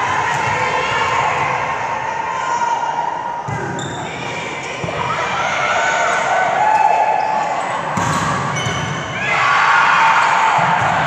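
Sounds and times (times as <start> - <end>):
people shouting in a gym: 0.0 - 11.0.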